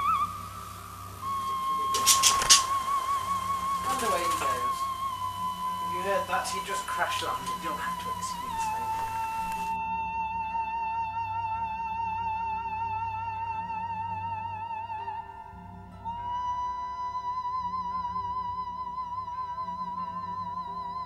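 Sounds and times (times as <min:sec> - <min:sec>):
slow melody with vibrato: 0:00.0 - 0:21.0
soft low pulsing accompaniment: 0:00.0 - 0:21.0.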